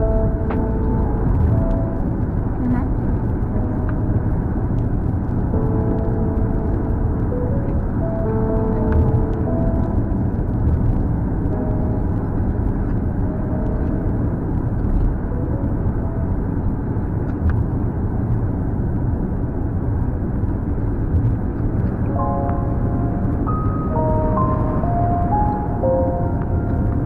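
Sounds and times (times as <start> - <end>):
background music: 0.0 - 17.3, 22.0 - 27.0
car cabin road and engine noise: 0.0 - 27.0.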